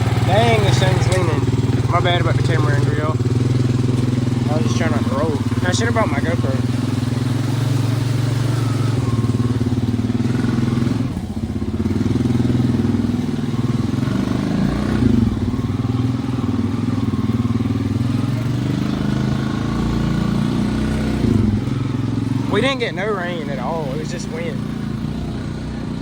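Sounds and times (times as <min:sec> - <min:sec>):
atv engine running and revving: 0:00.0 - 0:26.0.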